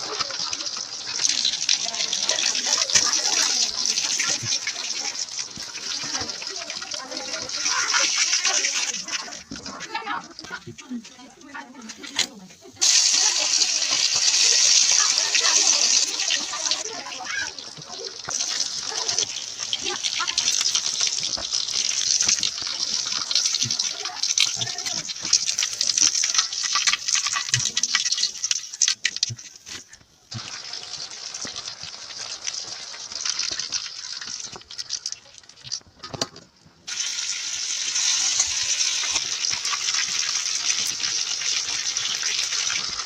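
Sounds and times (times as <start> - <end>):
chicken deep-frying in oil: 0.0 - 43.0.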